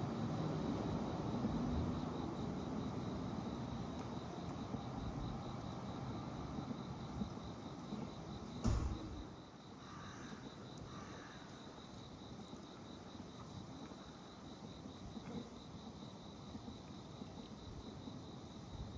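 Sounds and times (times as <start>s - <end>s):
faint insect chirping: 0.0s - 18.9s.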